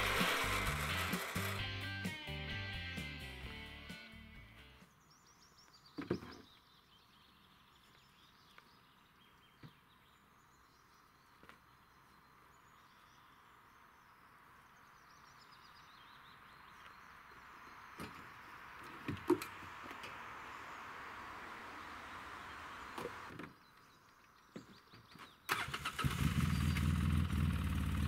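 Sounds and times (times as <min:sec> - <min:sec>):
songbird chirping trills: 0:04.0 - 0:26.9.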